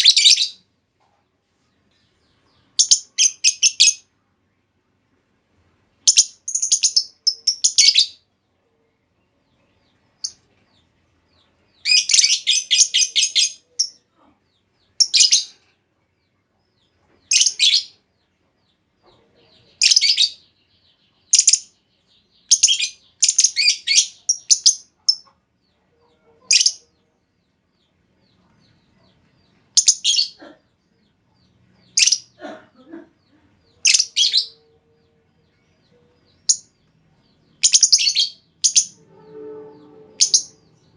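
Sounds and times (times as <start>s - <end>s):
lovebird chirping: 0.0s - 0.6s, 1.9s - 4.1s, 6.0s - 8.3s, 9.5s - 15.7s, 16.6s - 18.1s, 18.7s - 25.4s, 26.1s - 40.9s.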